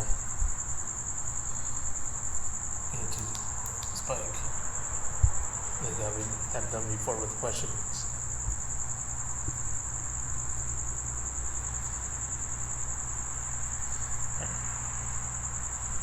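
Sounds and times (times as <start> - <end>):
crickets chirping: 0.0 - 16.0
low steady hum: 0.0 - 16.0.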